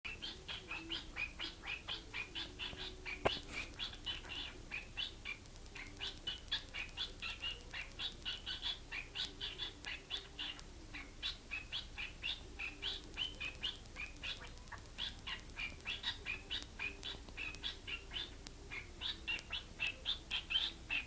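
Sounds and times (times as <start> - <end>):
bird chirping: 0.1 - 21.0.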